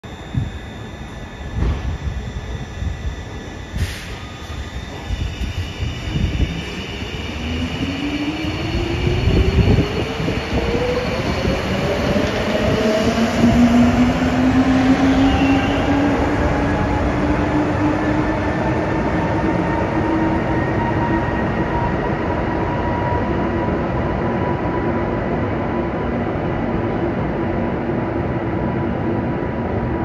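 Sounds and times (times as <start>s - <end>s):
tram high steady whine: 0.0s - 30.0s
tram motor tones rising in pitch: 0.0s - 30.0s.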